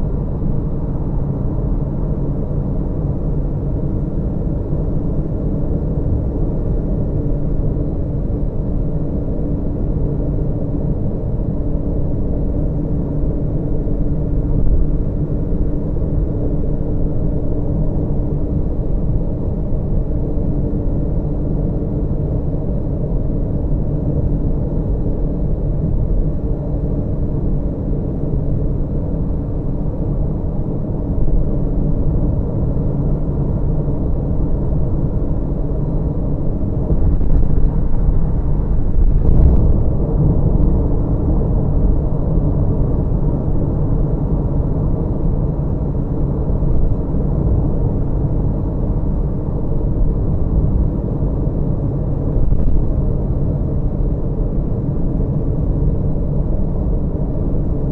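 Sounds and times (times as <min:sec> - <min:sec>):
car road and engine noise: 0:00.0 - 0:57.8.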